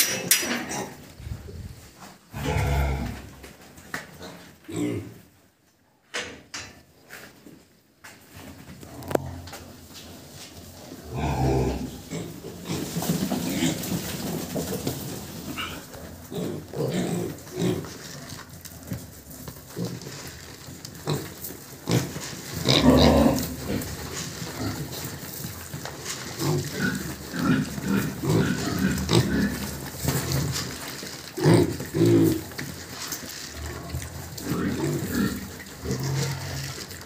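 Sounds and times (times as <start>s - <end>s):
pigs grunting: 0.0s - 5.3s, 11.0s - 37.0s.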